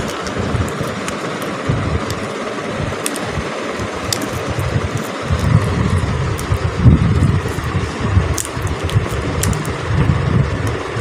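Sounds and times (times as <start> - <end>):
background rumble and hiss: 0.0 - 11.0.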